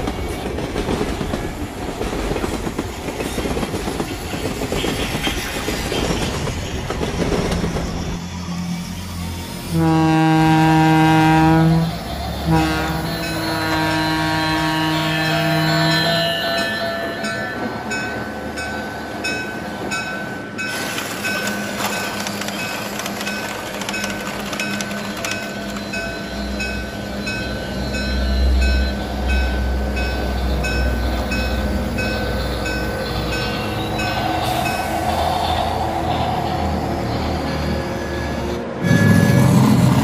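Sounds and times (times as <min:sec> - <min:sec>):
regular clicking of train on track: 0:00.0 - 0:40.0.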